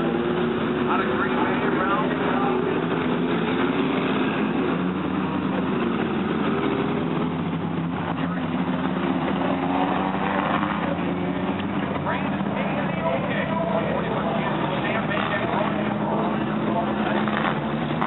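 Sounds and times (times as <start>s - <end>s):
race car engines: 0.0s - 18.0s.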